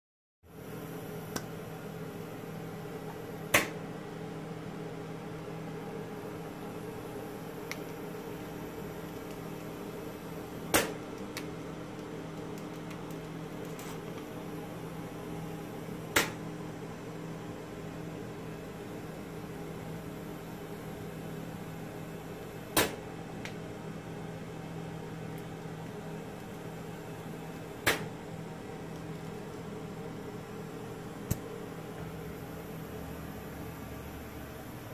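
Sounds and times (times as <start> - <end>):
machine hum with held tones: 0.5 - 34.9.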